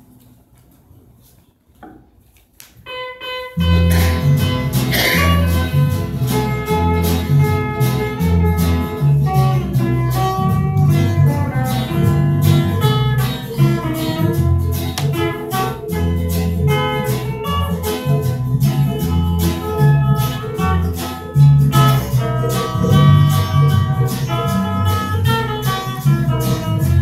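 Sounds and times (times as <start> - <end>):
acoustic guitars strumming: 2.9 - 27.0
low bass notes: 3.6 - 27.0.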